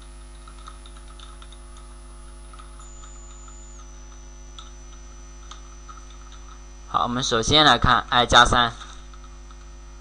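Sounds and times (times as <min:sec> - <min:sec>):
faint high whine: 0:00.0 - 0:10.0
mains hum: 0:00.0 - 0:10.0.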